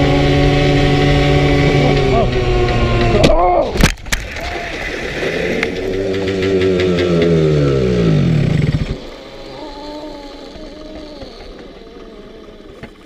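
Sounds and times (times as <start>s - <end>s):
scooter engine running: 0.0s - 3.8s, 5.2s - 13.0s.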